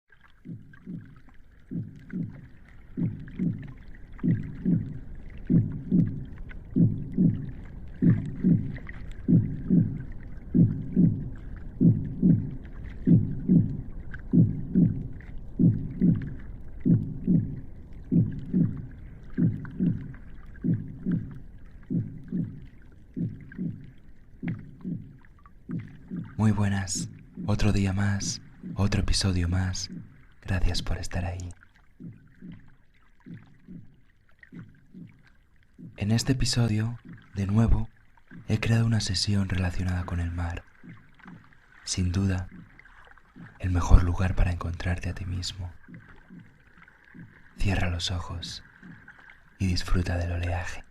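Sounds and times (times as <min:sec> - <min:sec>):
slow heartbeat thumps: 0:00.4 - 0:50.9.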